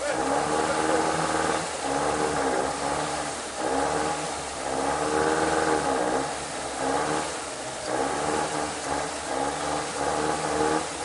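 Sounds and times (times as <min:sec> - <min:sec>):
engine revving in surges: 0:00.0 - 0:11.0.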